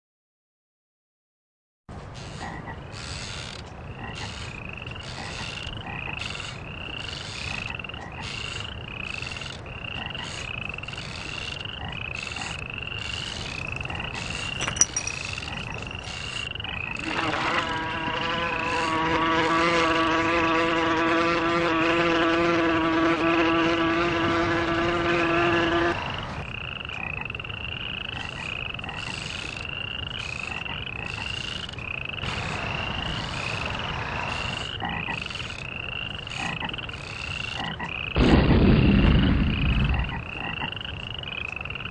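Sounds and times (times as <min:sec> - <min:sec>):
frogs croaking: 0:02.2 - 0:41.9.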